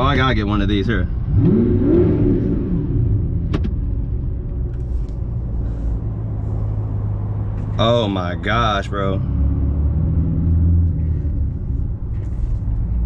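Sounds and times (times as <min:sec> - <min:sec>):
car engine revving and droning: 0:00.3 - 0:13.0.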